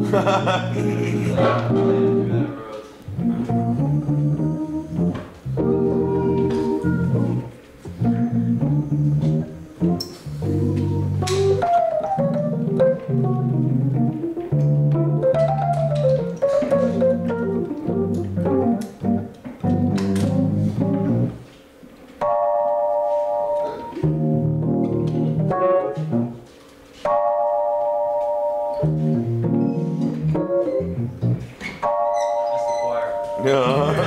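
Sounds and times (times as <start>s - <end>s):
electric piano jazz: 0.0s - 34.0s.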